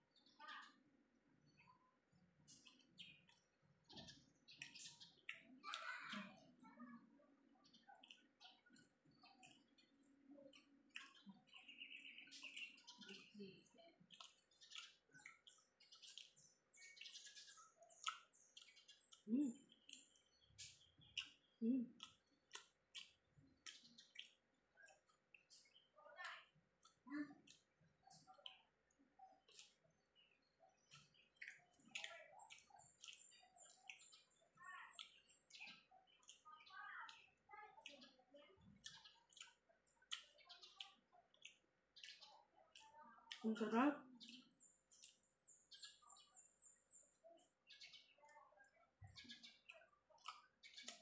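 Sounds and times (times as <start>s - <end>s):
faint chewing mouth sounds: 1.5s - 51.0s.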